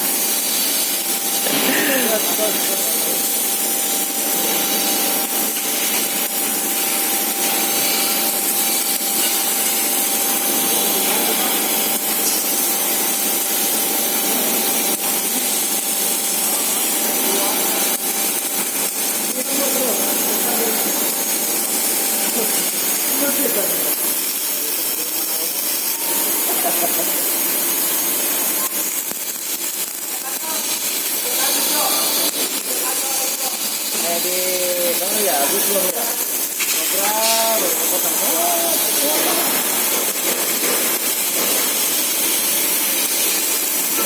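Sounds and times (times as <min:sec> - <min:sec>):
welding machine crackling hiss: 0:00.0 - 0:44.0.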